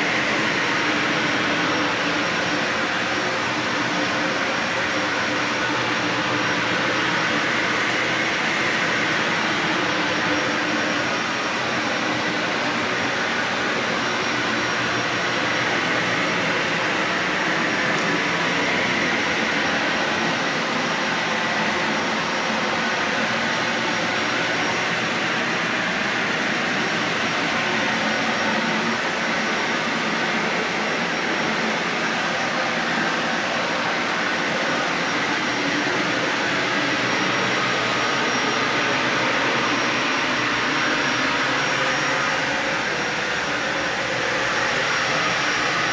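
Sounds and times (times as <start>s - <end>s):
vacuum cleaner on carpet: 0.0s - 45.9s.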